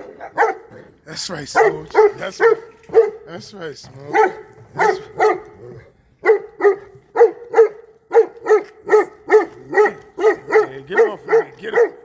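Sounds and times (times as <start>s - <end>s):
dog barking: 0.0s - 3.4s, 4.0s - 12.0s.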